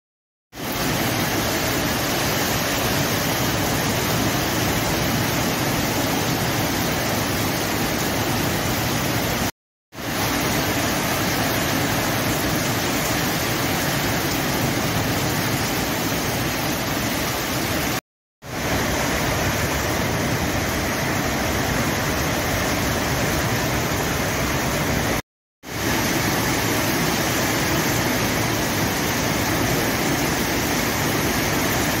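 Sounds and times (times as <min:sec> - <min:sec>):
heavy rain on road and roofs: 0:00.6 - 0:32.0.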